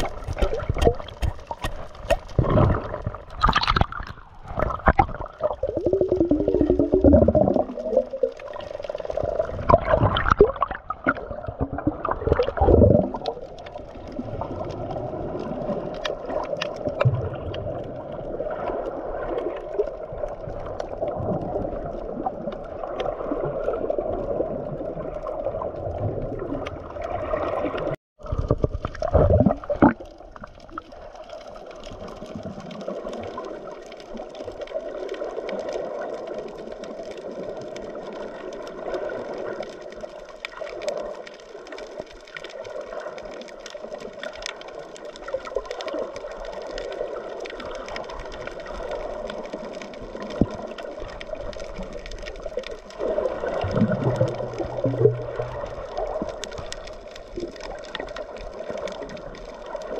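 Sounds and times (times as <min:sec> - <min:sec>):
sea water gurgling and rushing: 0:00.0 - 0:59.9.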